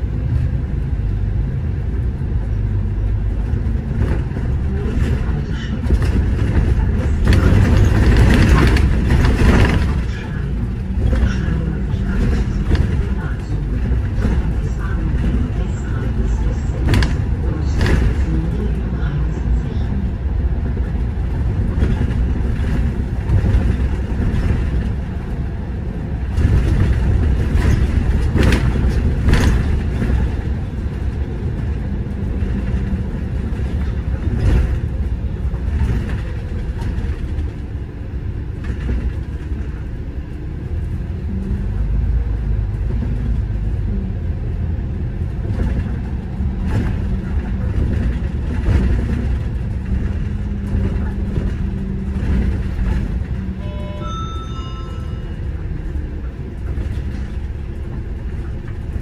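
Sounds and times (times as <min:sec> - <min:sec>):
bus engine and tyres rumbling: 0:00.0 - 0:59.0.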